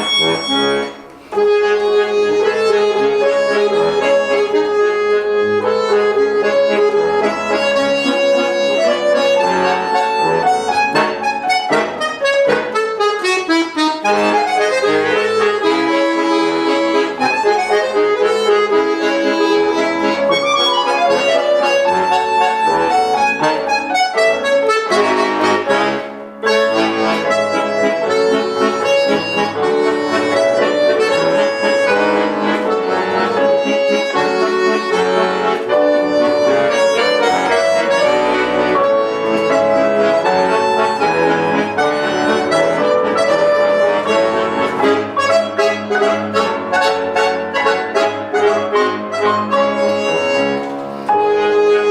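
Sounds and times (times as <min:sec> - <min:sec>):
accordion playing a waltz: 0:00.0 - 0:51.9
piano accompaniment: 0:00.0 - 0:51.9.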